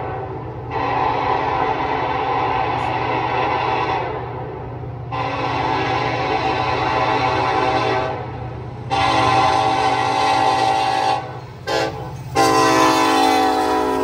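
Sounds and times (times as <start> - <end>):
locomotive air horn blasts: 0.0 - 4.3, 5.1 - 8.3, 8.9 - 14.0.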